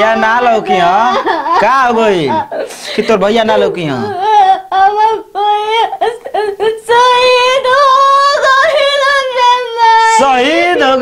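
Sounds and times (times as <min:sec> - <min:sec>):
woman wailing in grief: 0:00.6 - 0:10.9.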